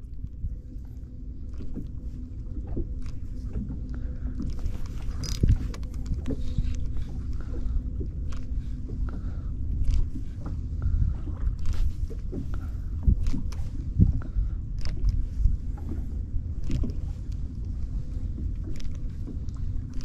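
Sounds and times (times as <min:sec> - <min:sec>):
water against boat hull: 0:00.0 - 0:20.0.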